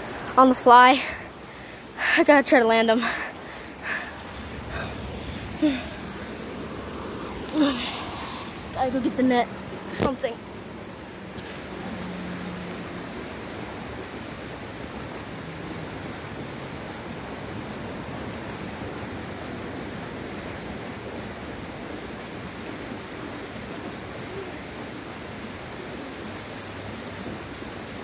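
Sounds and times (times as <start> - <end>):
rushing outdoor background noise: 0.0 - 28.0.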